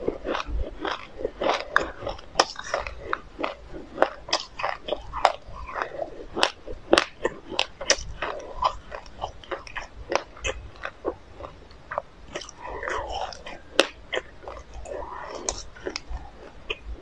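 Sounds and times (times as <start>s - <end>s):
chewing with crunches: 0.0s - 17.0s.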